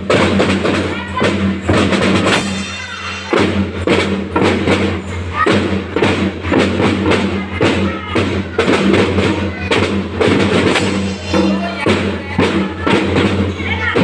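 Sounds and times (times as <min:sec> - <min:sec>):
marching drum band beat: 0:00.0 - 0:14.0.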